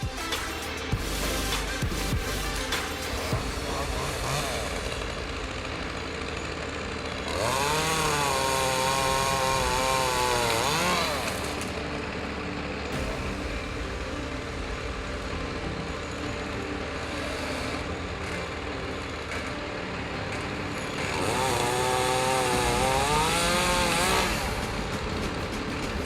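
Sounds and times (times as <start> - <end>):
chainsaw running and revving: 0.8 - 26.0.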